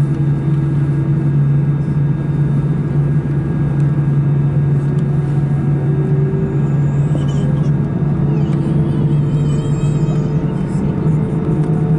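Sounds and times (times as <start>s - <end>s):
aircraft cabin engine drone: 0.0s - 11.9s.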